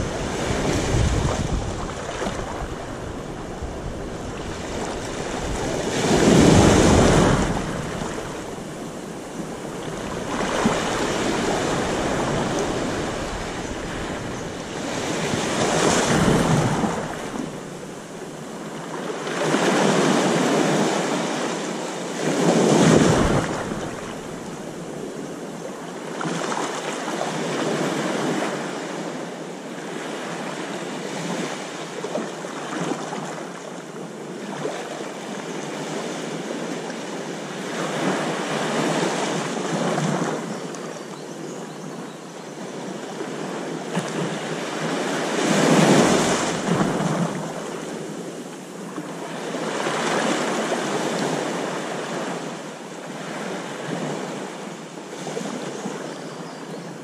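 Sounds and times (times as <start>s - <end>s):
small waves washing on shore: 0.0s - 41.2s, 41.9s - 56.2s.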